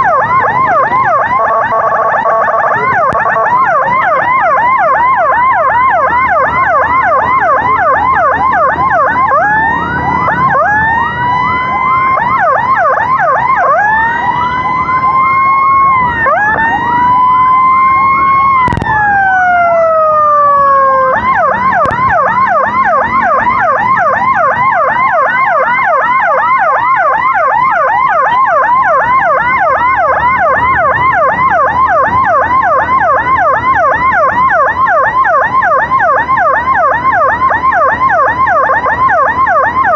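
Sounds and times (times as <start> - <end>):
fast yelping siren: 0.0 - 39.9
slow wailing siren: 0.0 - 39.9.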